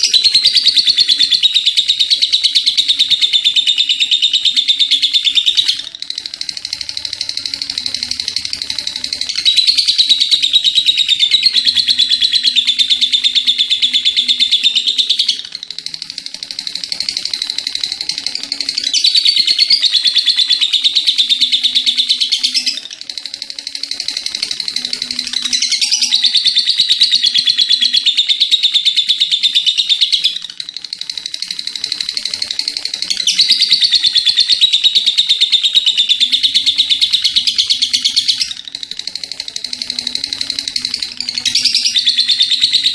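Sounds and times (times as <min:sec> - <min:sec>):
lovebird shrill trilled chatter: 0:00.0 - 0:42.9
soft bird chirping: 0:00.0 - 0:42.9.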